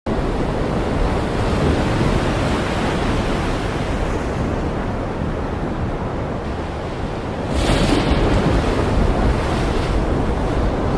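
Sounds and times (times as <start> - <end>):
wind on microphone: 0.1 - 10.9.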